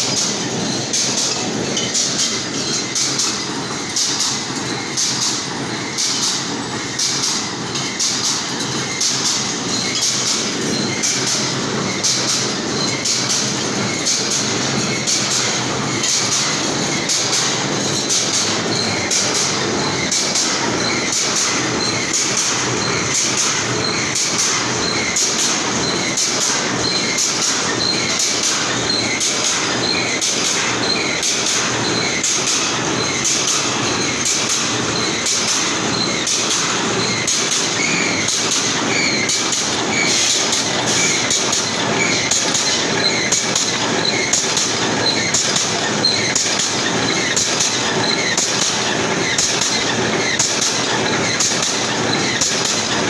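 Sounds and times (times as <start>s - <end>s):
sharp machine clicks: 0.0s - 53.0s
welding machine clatter: 0.0s - 53.0s.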